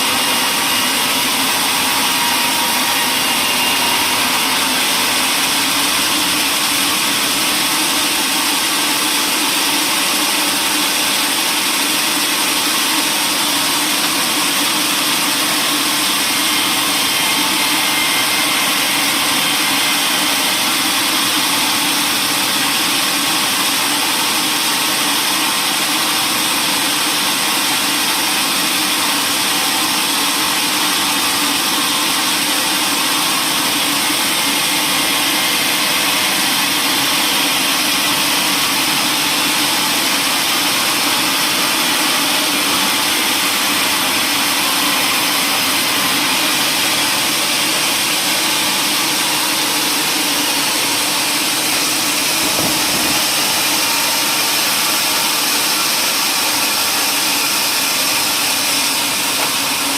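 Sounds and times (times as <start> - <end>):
woodworking machinery running: 0.0 - 59.9.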